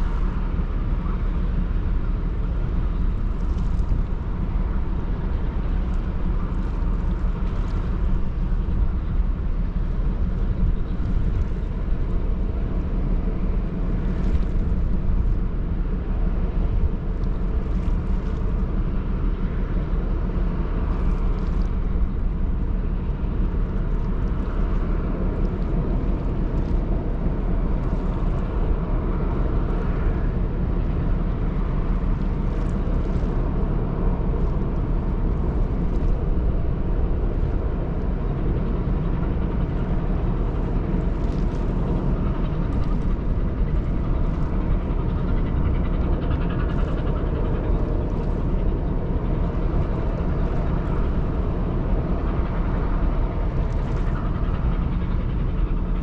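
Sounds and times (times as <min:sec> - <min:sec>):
rushing wind and water: 0:00.0 - 0:56.0
ship engine rumble: 0:00.0 - 0:56.0.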